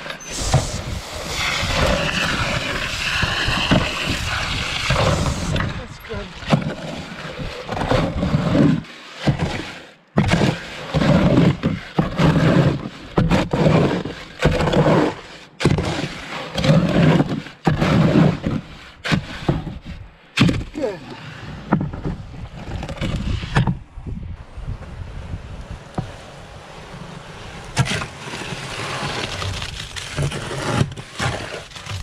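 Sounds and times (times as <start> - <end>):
shovel scraping wet concrete: 0.0 - 23.8, 27.6 - 32.0.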